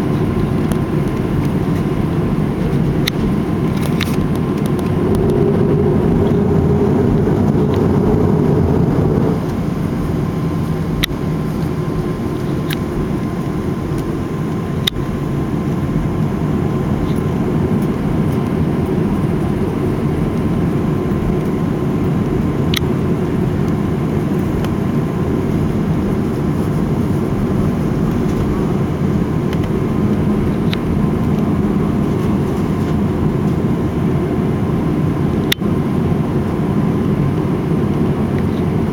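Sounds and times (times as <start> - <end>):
jet engines at low power: 0.0 - 38.9.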